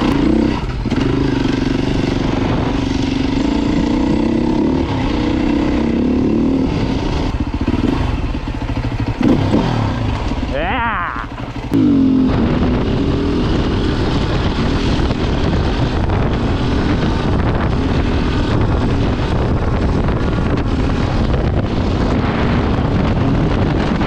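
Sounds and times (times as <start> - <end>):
wind noise on microphone: 0.0 - 10.6, 11.3 - 24.0
dirt bike engine running: 0.0 - 24.0.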